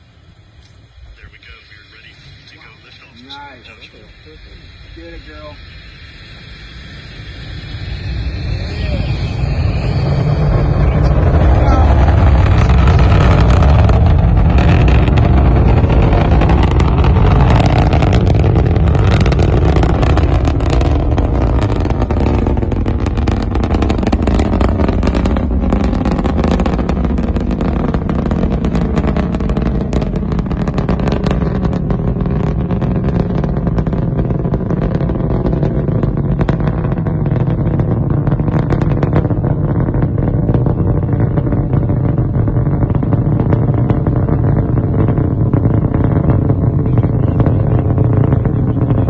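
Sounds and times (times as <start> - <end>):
rocket exhaust rumbling and crackling: 0.0 - 49.0.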